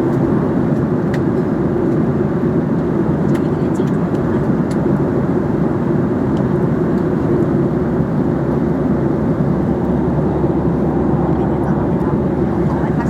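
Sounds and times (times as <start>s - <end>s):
airliner cabin engine and airflow noise: 0.0s - 13.0s.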